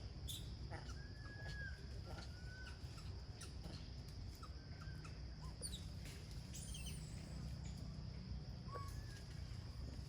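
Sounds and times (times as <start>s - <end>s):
constant low rumble: 0.0s - 10.0s.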